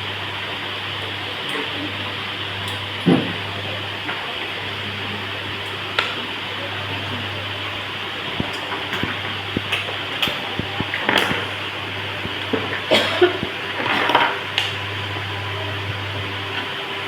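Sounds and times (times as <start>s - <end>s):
small electric motor and fan whirring: 0.0s - 17.0s.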